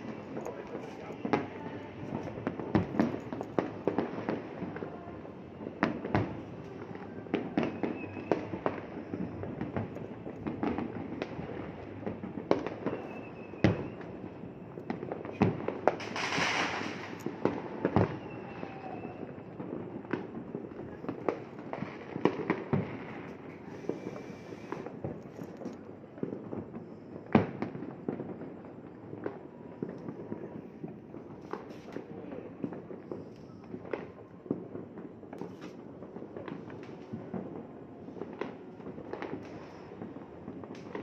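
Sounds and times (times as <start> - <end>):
fireworks bangs: 0.0 - 41.0.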